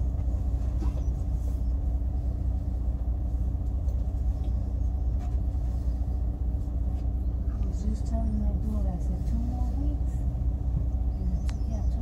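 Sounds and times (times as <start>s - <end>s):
bus engine rumble: 0.0s - 12.0s
faint constant hum: 0.0s - 12.0s.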